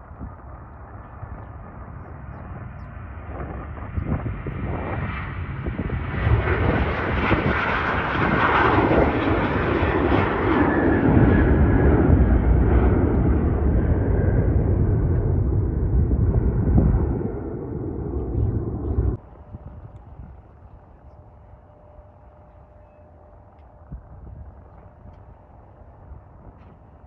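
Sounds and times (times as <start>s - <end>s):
jet airliner engines: 0.0s - 27.0s.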